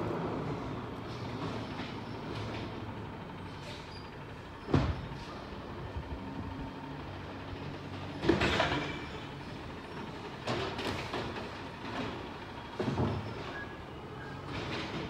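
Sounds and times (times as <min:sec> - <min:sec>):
garbage truck engine running: 0:00.0 - 0:15.0.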